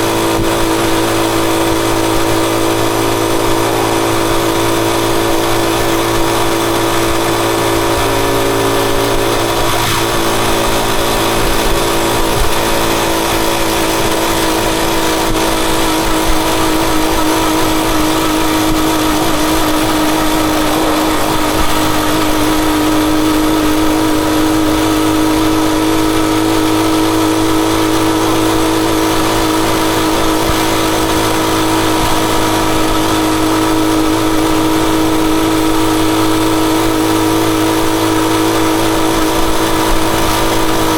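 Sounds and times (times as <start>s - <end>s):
motorcycle engine running: 0.0s - 40.9s
steady rushing noise: 0.0s - 40.9s.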